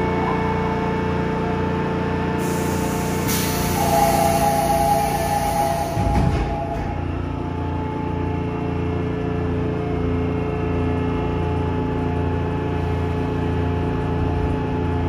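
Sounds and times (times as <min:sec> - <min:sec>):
steady train hum: 0:00.0 - 0:15.0
train wheels rumbling on track: 0:00.0 - 0:15.0.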